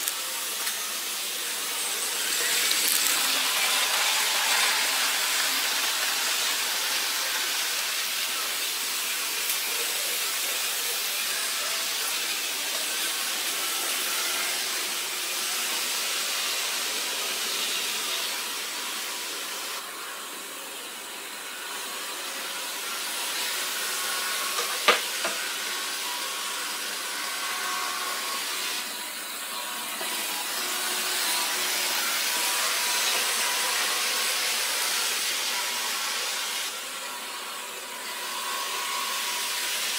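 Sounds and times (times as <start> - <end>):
model trains whirring: 0.0 - 39.9.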